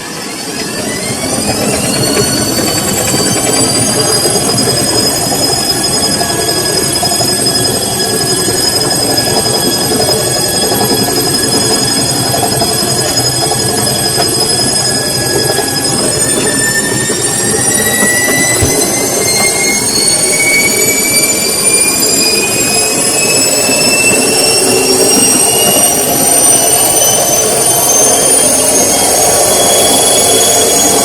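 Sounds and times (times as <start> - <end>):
washing machine motor whining: 0.0 - 31.0.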